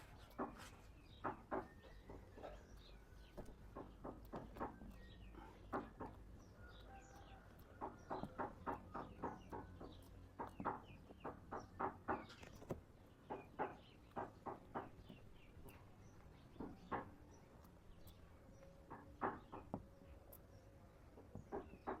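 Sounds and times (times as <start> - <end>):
animal clucking calls: 0.0 - 18.2, 21.2 - 22.0.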